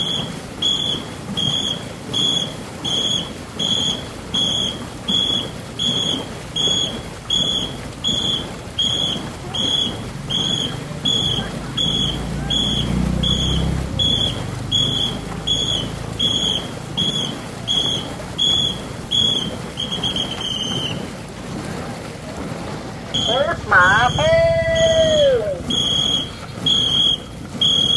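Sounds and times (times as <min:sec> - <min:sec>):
whistle blasts: 0:00.0 - 0:21.2, 0:23.1 - 0:27.9.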